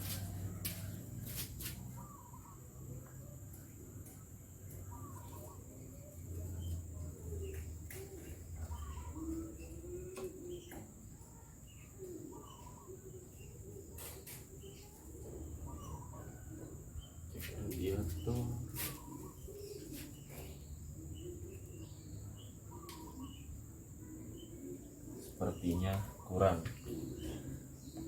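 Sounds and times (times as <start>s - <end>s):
low cooing calls: 1.9s - 2.9s, 4.7s - 28.0s.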